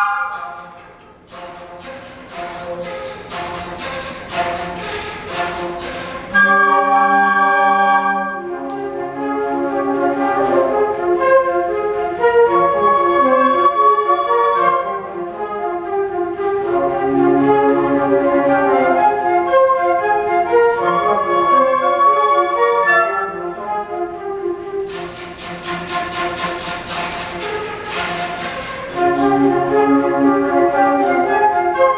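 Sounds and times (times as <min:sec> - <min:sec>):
flute choir playing: 0:00.0 - 0:31.9.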